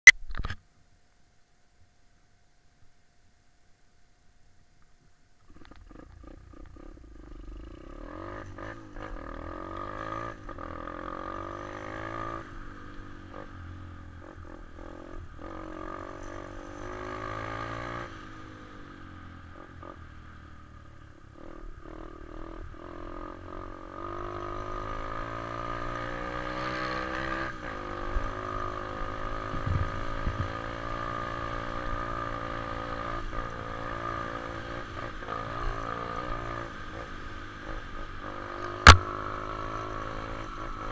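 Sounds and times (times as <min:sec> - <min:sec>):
pit bike engine accelerating: 0:05.5 - 0:40.9.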